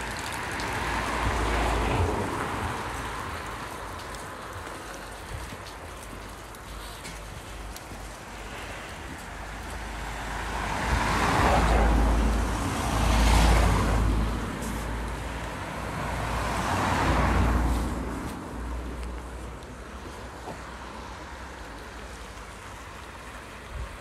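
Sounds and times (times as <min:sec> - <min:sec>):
vehicles passing close by: 0:00.0 - 0:24.0.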